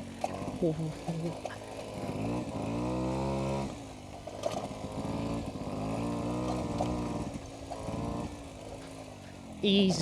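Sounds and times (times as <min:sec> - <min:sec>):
moped engine running: 0:00.0 - 0:10.0.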